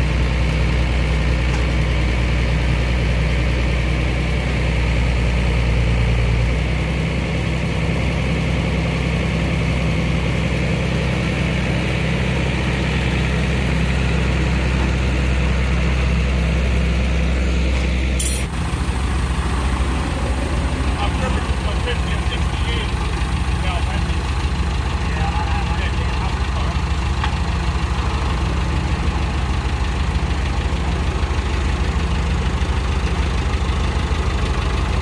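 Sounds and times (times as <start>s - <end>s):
heavy vehicle engine idling: 0.0s - 35.0s.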